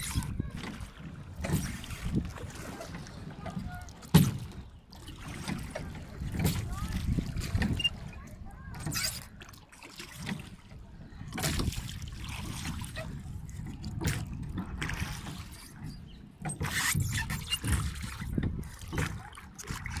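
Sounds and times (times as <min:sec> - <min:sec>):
oars splashing in water: 0:00.0 - 0:20.0
water running off oar blades: 0:00.0 - 0:20.0.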